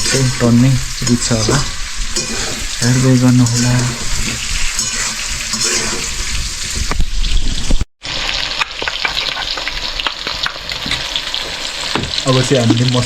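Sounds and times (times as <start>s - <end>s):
stirring ticks and scrapes: 0.0s - 7.0s, 8.6s - 13.0s
meat and onion sizzling in pan: 0.0s - 13.0s.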